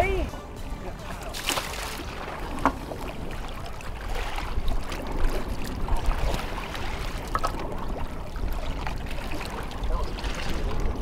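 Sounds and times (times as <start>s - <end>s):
steady low rumble: 0.0s - 11.0s
water sloshing and splashing: 0.0s - 11.0s.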